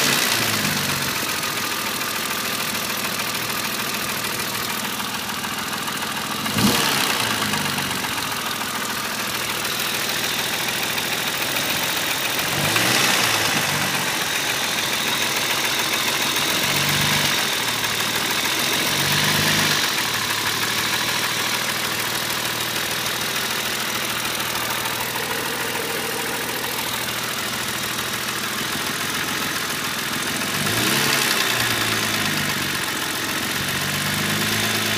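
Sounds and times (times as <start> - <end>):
knocking tick from engine: 0.0 - 33.2
car engine idling and revving: 0.0 - 34.9.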